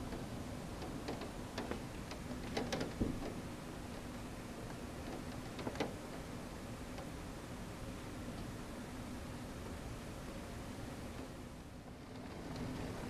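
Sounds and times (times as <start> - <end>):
raindrops striking a window: 0.0 - 13.0
steady background hiss: 0.0 - 13.0.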